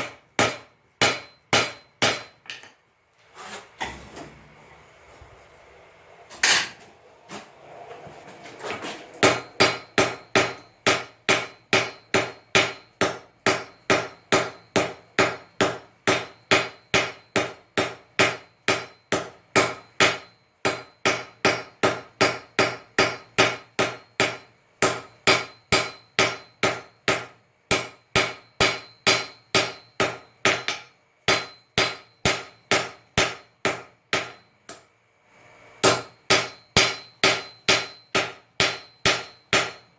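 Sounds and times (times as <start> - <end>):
hammer striking iron on anvil: 0.0 - 2.8, 6.4 - 6.8, 9.2 - 34.9, 35.8 - 39.9.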